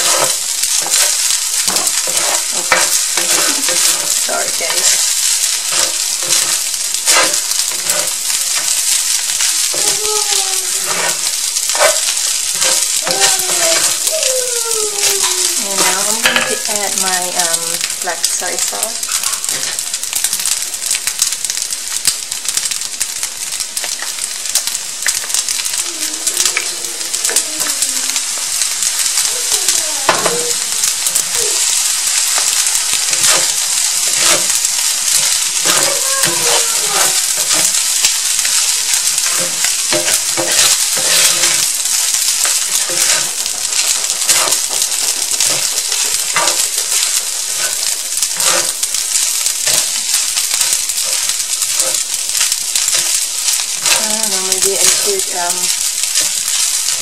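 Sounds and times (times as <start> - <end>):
spatula scraping a pan: 0.0 - 21.0, 26.3 - 57.0
rice sizzling in a skillet: 0.0 - 57.0.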